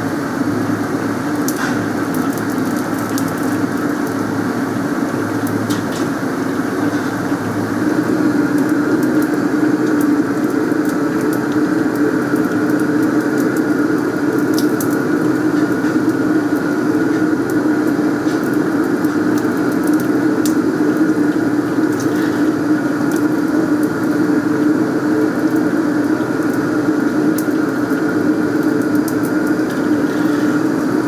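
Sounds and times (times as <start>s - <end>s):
faint crackles and clicks: 1.3s - 4.2s, 5.1s - 31.0s.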